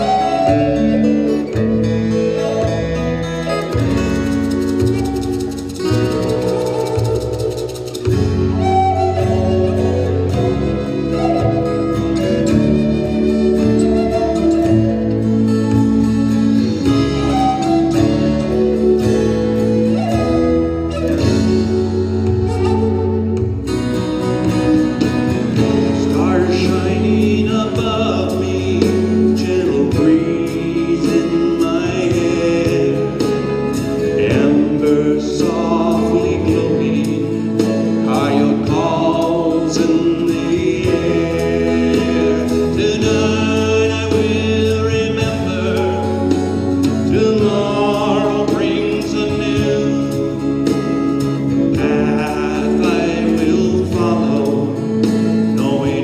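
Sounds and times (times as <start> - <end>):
slow fusion music: 0.0 - 56.0.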